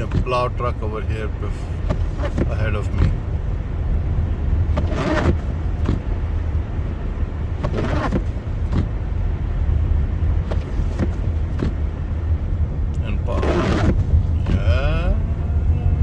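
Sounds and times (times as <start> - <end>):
car driving rumble inside cabin: 0.0 - 16.0.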